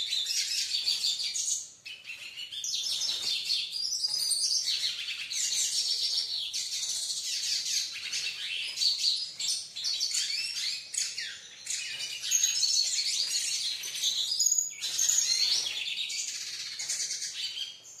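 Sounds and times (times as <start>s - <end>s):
bird twittering song: 0.0s - 18.0s.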